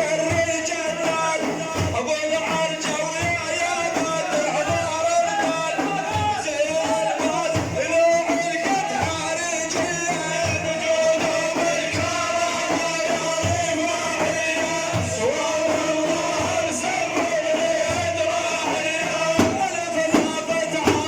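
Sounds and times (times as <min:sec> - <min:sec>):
low drum beats: 0:00.0 - 0:21.0.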